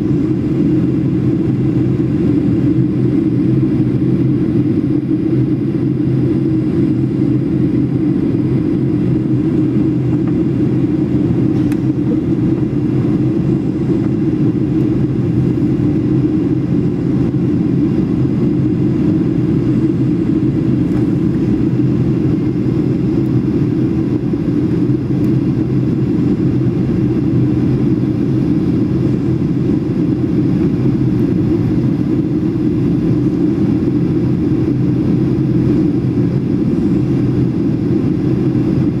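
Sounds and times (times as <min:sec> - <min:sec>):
airplane cabin engine roar: 0:00.0 - 0:39.0.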